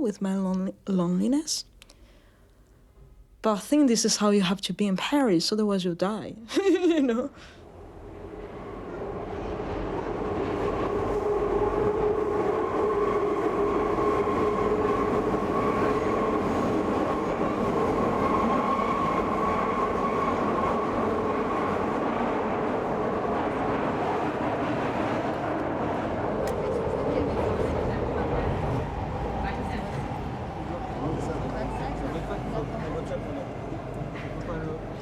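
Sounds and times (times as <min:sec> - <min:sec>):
metro train rumble and whine: 0:06.6 - 0:35.0.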